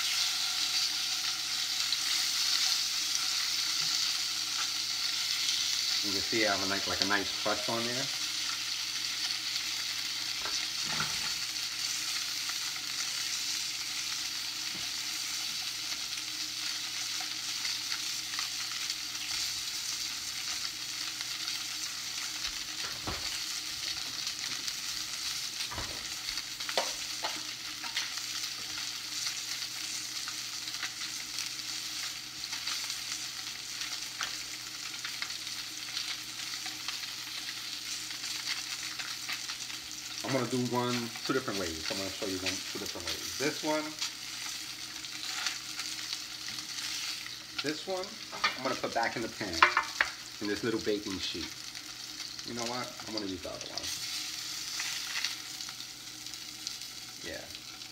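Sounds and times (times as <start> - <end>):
fish sizzling in a frying pan: 0.0 - 57.9.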